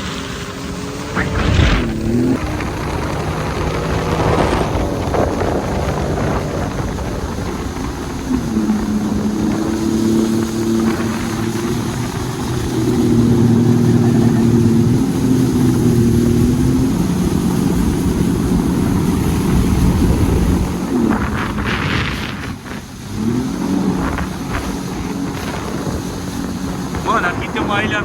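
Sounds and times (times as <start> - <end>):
jet ski engine running: 0.0 - 28.0.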